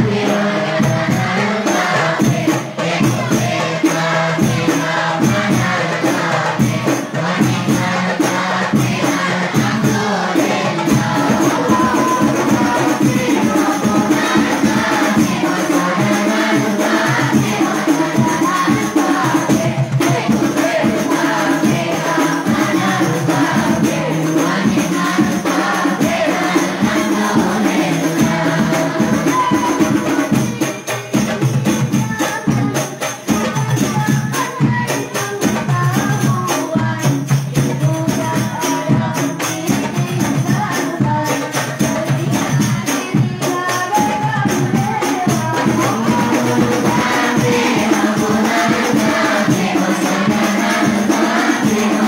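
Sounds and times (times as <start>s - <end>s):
frame drums beating: 0.0s - 52.0s
group of voices singing: 0.0s - 52.0s.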